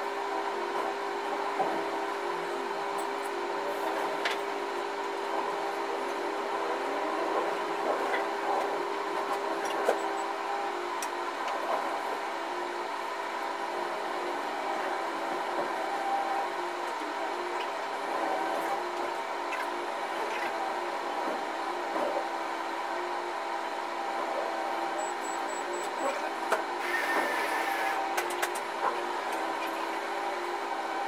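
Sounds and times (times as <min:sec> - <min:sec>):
excavator droning whine: 0:00.0 - 0:31.0.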